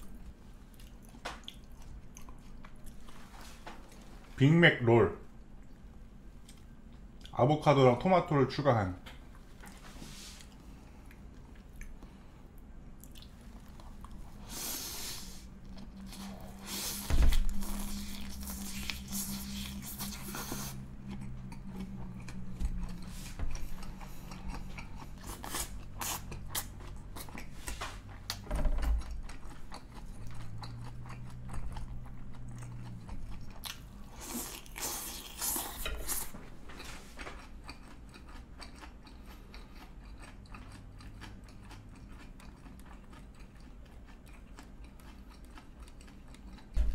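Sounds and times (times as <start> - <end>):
chewing and crunching food: 0.0 - 4.4, 5.2 - 7.4, 9.2 - 46.9.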